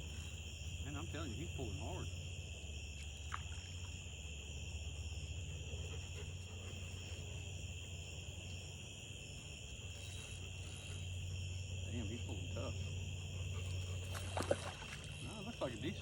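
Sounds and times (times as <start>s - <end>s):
night insects trilling: 0.0s - 16.0s.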